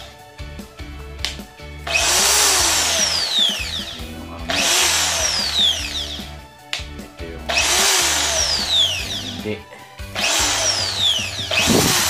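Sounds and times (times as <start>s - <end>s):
hammer drill motor whining: 1.2s - 6.9s, 7.5s - 12.0s.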